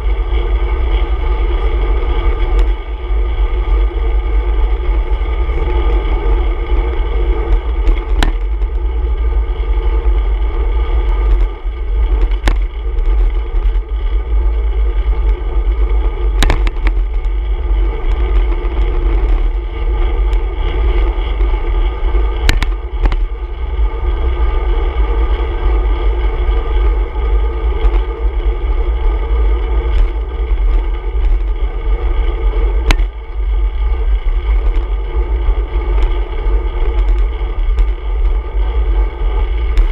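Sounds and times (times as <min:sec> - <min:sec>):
tyre and road noise: 0:00.0 - 0:39.9
wind on microphone: 0:00.0 - 0:39.9.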